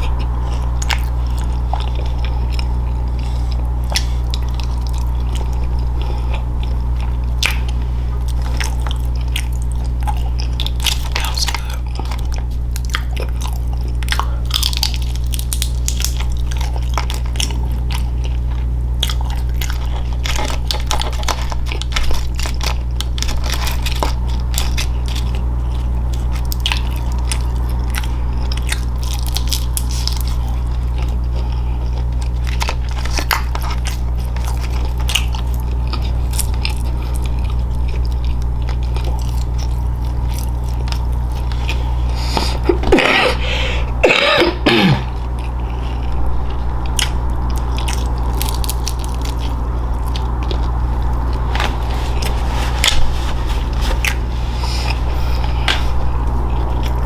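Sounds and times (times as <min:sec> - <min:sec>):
person chewing and crunching: 0:00.0 - 0:57.0
steady low hum: 0:00.0 - 0:57.0.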